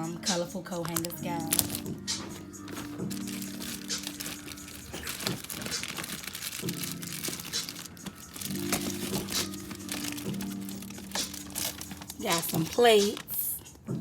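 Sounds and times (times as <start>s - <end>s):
low steady background tones: 0.0s - 14.0s
packaging crinkling and rustling: 0.6s - 13.9s.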